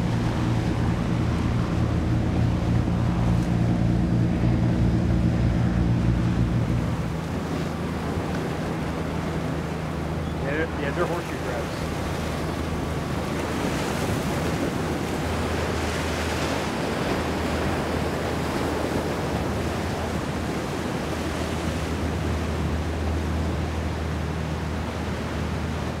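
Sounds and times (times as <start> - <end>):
boat engines droning: 0.0 - 26.0
wind and water rushing: 0.0 - 26.0.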